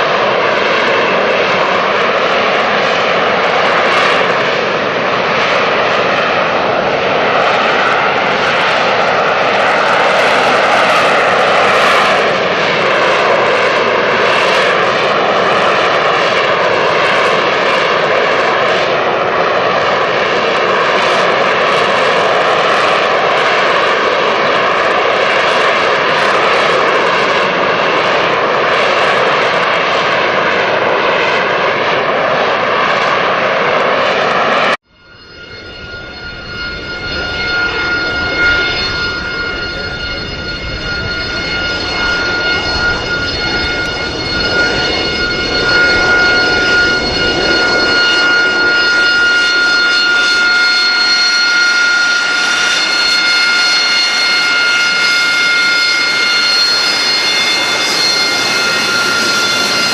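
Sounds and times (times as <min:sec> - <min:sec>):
jet engine whining: 0:00.0 - 0:59.9.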